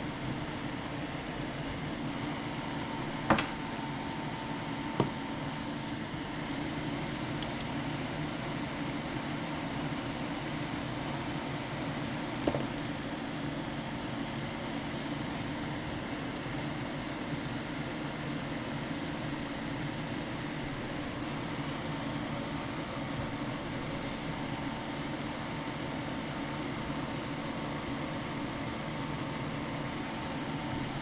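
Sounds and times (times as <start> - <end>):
machine hum and hiss: 0.0 - 31.0.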